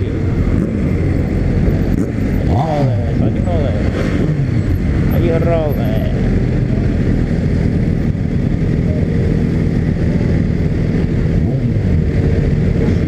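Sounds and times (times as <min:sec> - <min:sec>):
motorcycle engine running: 0:00.0 - 0:13.0
other motorcycles riding: 0:00.0 - 0:13.0.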